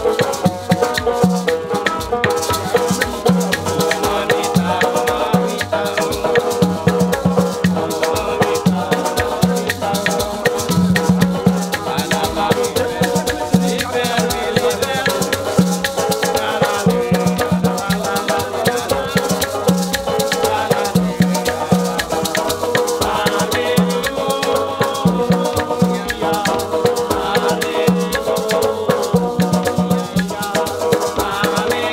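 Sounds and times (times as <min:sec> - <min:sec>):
acoustic guitar strumming: 0:00.0 - 0:31.9
banjo strumming: 0:00.0 - 0:31.9
maracas shaking: 0:00.0 - 0:31.9.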